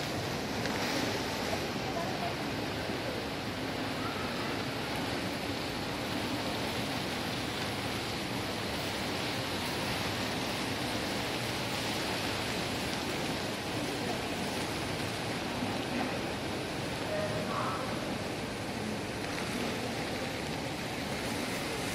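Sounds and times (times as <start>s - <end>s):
shopping mall ambience hiss: 0.0s - 21.9s.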